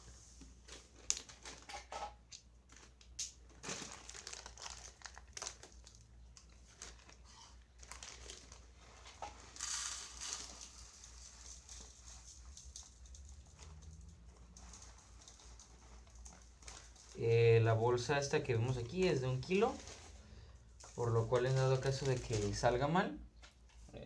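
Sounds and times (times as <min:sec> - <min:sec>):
plastic bag crinkling: 0:00.6 - 0:23.0.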